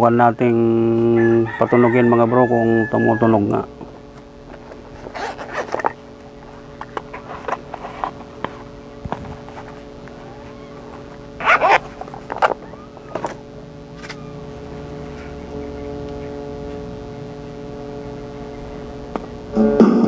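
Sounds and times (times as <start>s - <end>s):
speaker electrical hum: 0.0s - 20.0s.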